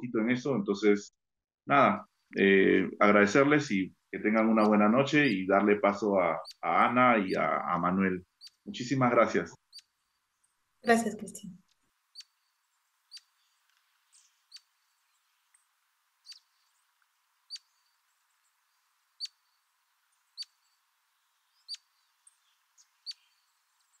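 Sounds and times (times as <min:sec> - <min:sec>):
small bird chirping: 0:01.9 - 0:24.0.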